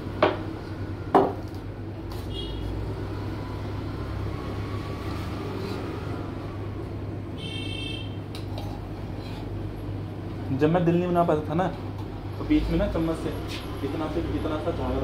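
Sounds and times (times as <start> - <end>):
low hum of cafe machinery: 0.0 - 15.0.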